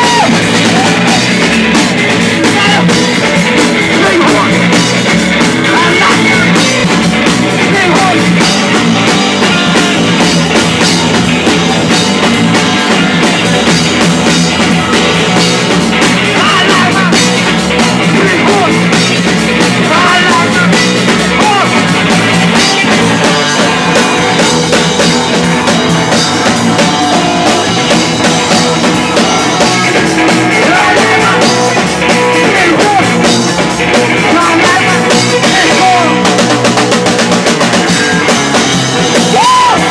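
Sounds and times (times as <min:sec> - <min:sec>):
drum kit with cymbals: 0:00.0 - 0:39.9
electric guitar: 0:00.0 - 0:39.9
live rock band playing: 0:00.0 - 0:39.9.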